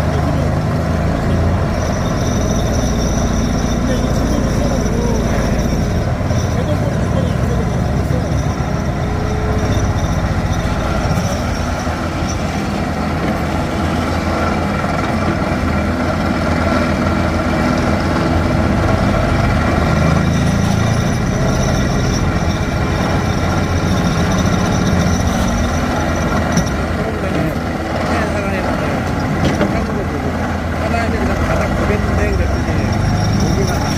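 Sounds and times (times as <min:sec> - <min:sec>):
diesel engine: 0:00.0 - 0:33.9
hydraulic rock breaker rattling: 0:01.2 - 0:33.9.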